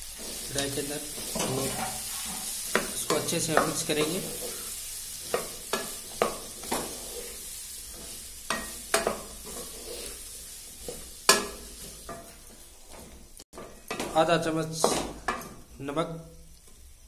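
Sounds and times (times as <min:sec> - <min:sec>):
wooden spatula scraping pan: 0:00.0 - 0:15.6
vegetables sizzling in oil: 0:00.0 - 0:17.0.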